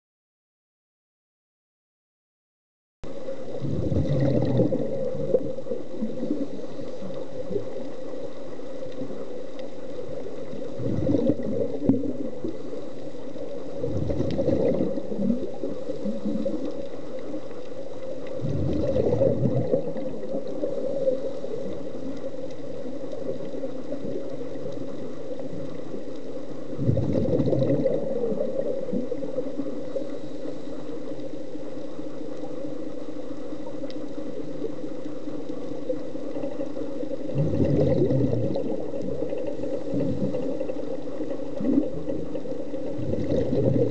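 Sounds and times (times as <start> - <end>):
underwater hum: 3.0 - 43.9
scuba exhaust bubbles gurgling: 3.1 - 43.9.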